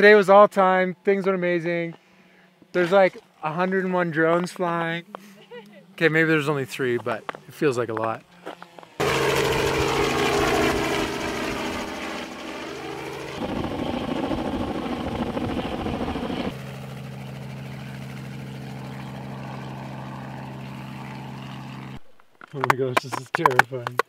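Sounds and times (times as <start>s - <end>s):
helicopter rotor and engine drone: 1.1s - 22.7s.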